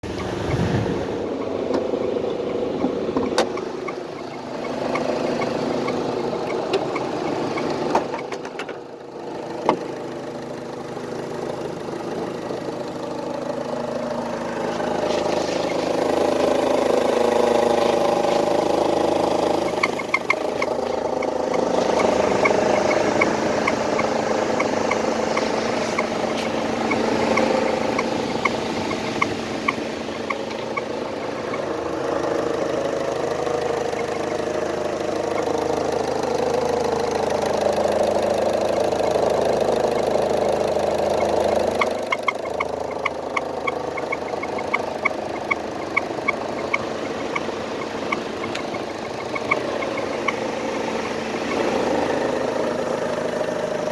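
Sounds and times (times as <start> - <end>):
car engine running steadily: 0.0 - 53.9
light regular ticking: 1.4 - 9.2, 9.9 - 53.9.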